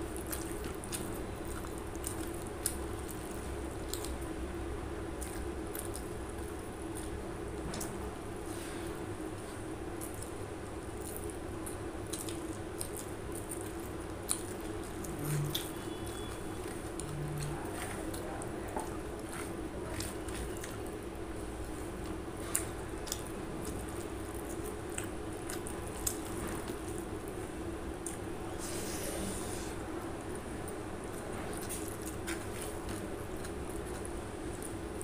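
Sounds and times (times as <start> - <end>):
mouth chewing: 0.0 - 4.4, 5.0 - 7.9, 10.0 - 28.3, 30.7 - 35.0
steady low hum: 0.0 - 35.0
wet squishing of food kneaded: 0.0 - 35.0.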